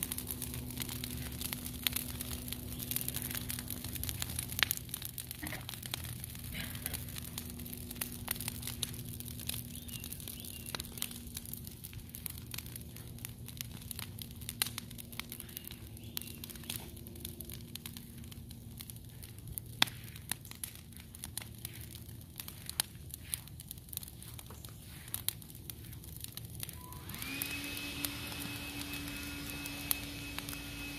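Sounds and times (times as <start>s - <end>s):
branches burning and crackling: 0.0s - 30.9s.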